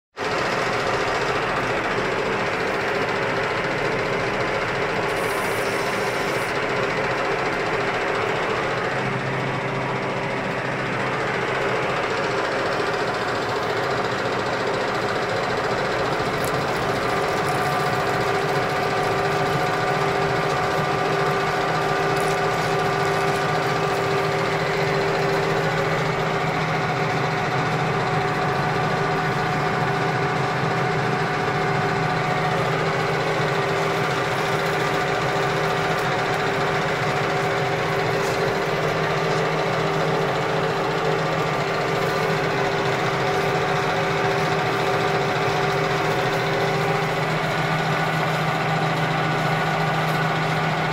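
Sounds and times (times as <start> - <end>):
metal lathe humming: 0.2 - 50.9.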